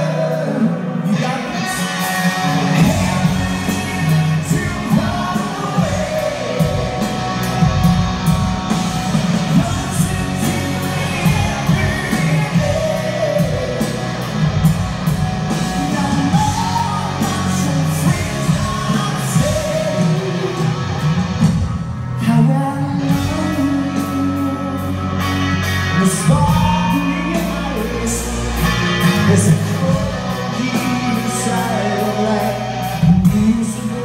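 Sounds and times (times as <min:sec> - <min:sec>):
lead vocal singing: 0:00.0 - 0:21.4, 0:22.1 - 0:34.0
live rock band playing: 0:00.0 - 0:34.0.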